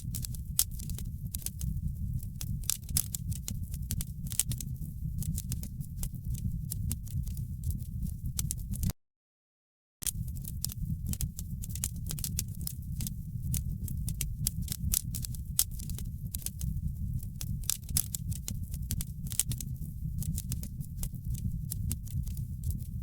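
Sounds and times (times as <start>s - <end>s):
fire crackling and popping: 0.0s - 8.9s, 10.0s - 23.0s
low fire rumble: 0.0s - 8.9s, 10.0s - 23.0s.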